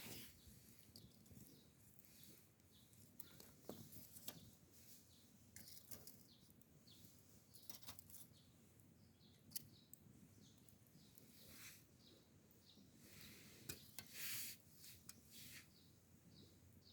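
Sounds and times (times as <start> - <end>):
faint campfire crackling: 0.0 - 16.9.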